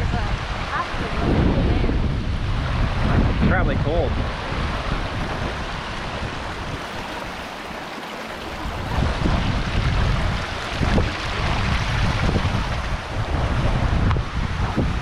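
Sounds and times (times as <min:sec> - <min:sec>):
waterfall and creek rushing: 0:00.0 - 0:15.0
wind rumbling on microphone: 0:00.0 - 0:15.0.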